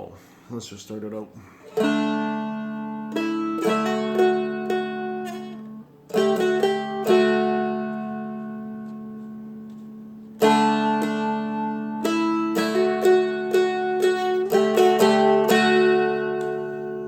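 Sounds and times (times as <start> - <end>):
dulcimer picking: 0.9 - 17.0
dulcimer strum: 1.6 - 17.0.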